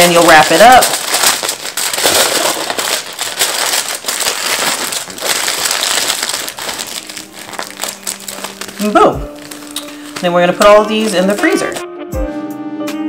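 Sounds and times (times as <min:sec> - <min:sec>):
aluminium foil crinkling: 0:00.0 - 0:11.8.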